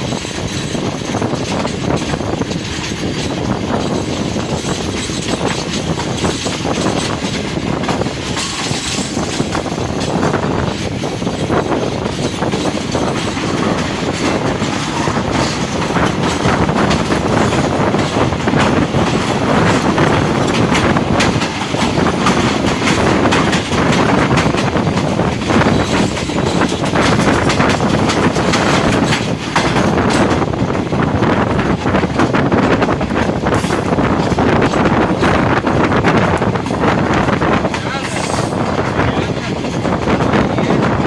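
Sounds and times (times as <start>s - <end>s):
train wheels rumbling on track: 0.0s - 41.0s
wheels clattering over rail joints: 0.0s - 41.0s.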